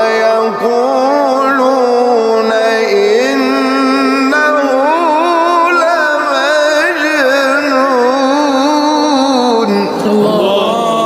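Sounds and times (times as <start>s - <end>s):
melodic recitation voice: 0.0s - 11.0s.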